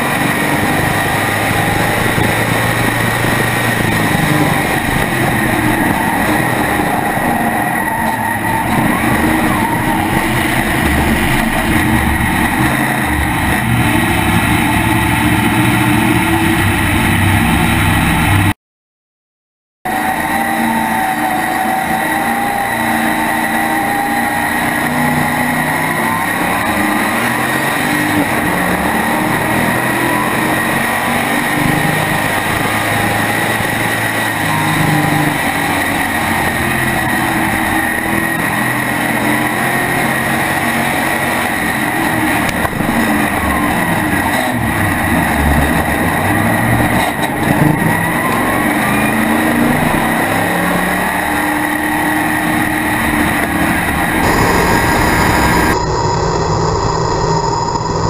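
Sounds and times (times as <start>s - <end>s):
race car engine under load: 0.0s - 18.5s, 20.0s - 58.0s.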